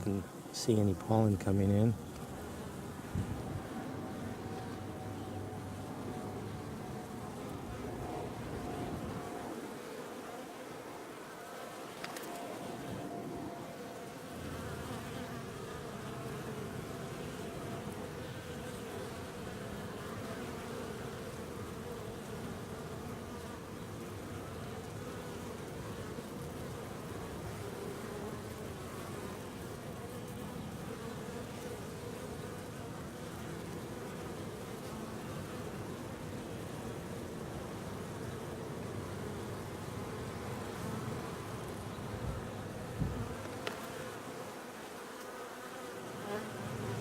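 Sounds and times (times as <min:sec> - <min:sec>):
honeybees buzzing: 0:00.0 - 0:47.0.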